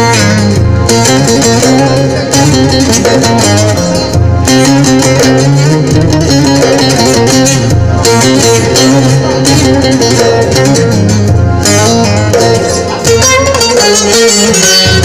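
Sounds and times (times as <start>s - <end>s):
plucked string melody: 0.0s - 15.0s
pulsing bass: 0.0s - 15.0s.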